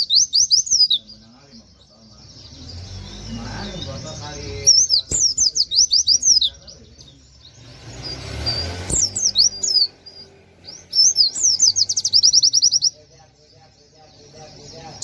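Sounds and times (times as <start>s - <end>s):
bird singing high sweeping chirps: 0.0s - 15.0s.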